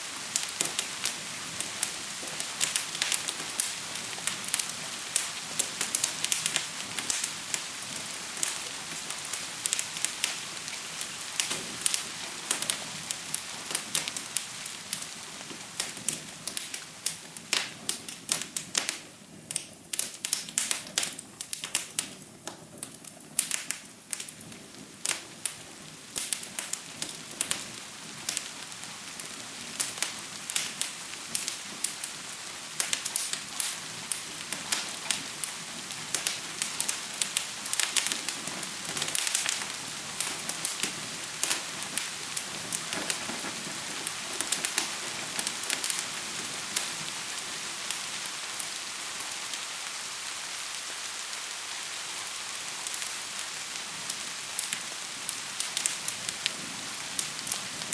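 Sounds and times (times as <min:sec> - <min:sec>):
steady rain: 0:00.0 - 0:57.9
wood fire crackling: 0:00.0 - 0:57.9.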